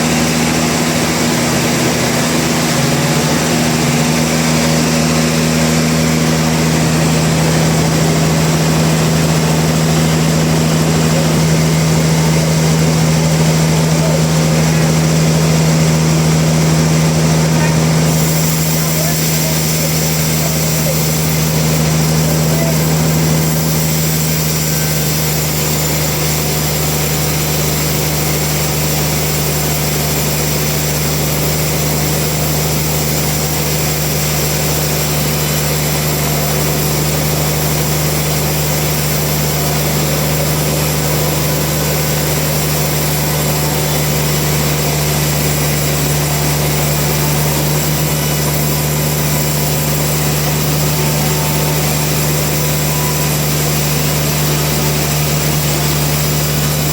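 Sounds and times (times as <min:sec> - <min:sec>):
sawmill machinery humming: 0:00.0 - 0:56.9.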